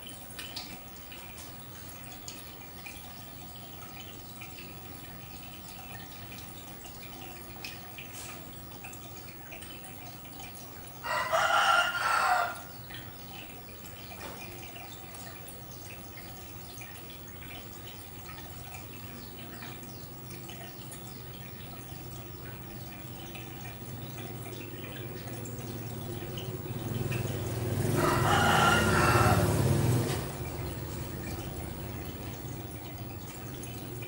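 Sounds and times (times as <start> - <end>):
water dripping and trickling: 0.0 - 34.0.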